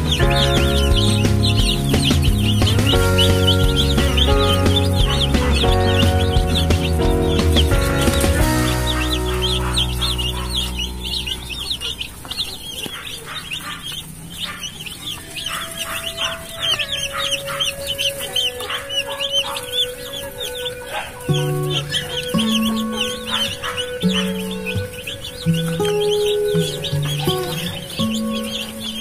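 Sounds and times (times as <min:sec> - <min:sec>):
background music: 0:00.0 - 0:12.8, 0:15.2 - 0:29.0
chicks peeping: 0:00.0 - 0:29.0.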